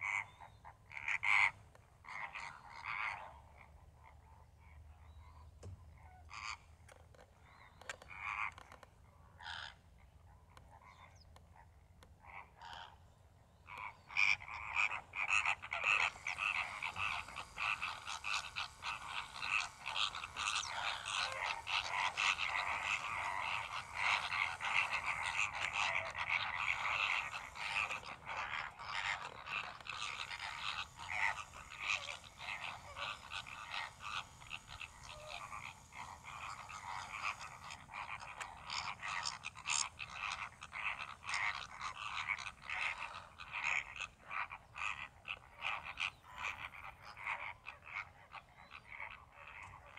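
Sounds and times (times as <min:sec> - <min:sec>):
flamingos chattering: 0:00.0 - 0:49.9.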